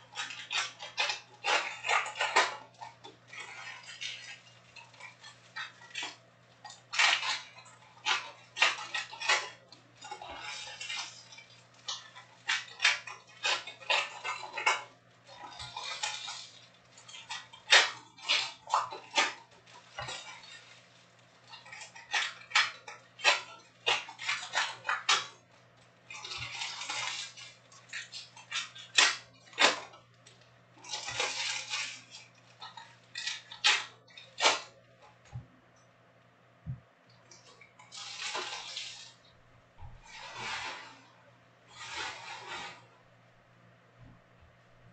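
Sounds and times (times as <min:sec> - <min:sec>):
foil wrappers crinkling: 0:00.0 - 0:35.4, 0:37.3 - 0:42.9.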